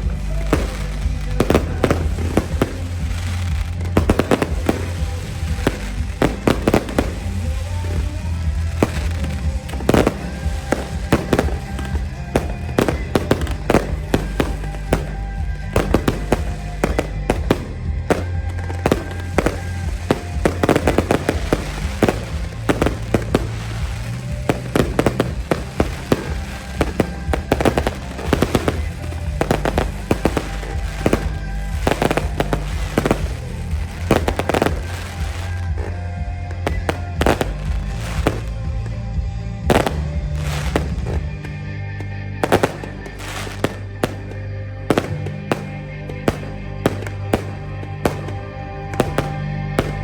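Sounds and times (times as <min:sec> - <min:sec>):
fireworks bursting: 0:00.0 - 0:50.0
music playing: 0:00.0 - 0:50.0.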